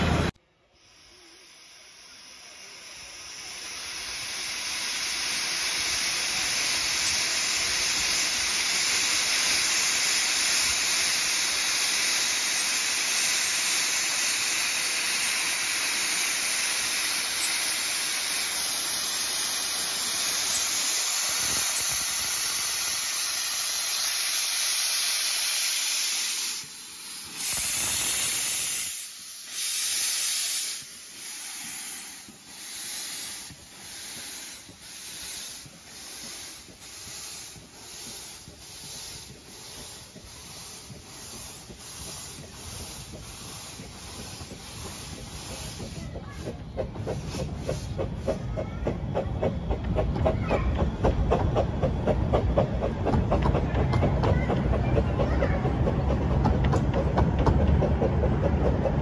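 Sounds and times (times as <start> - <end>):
steam locomotive hissing steam: 0.0 - 59.0.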